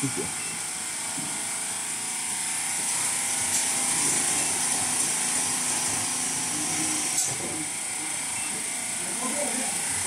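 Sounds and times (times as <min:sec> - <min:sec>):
motor whirring buzz: 0:00.0 - 0:10.0.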